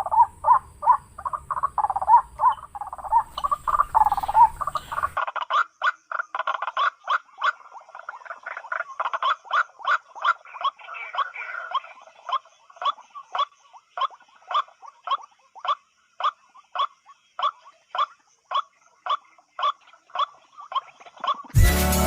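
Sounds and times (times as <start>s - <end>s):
waterhen calling: 0.0s - 6.2s, 6.8s - 21.6s.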